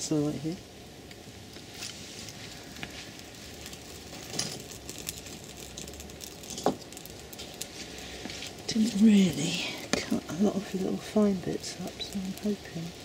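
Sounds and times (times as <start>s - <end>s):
fire crackling and popping: 0.0s - 13.0s
light rain hissing: 0.0s - 13.0s.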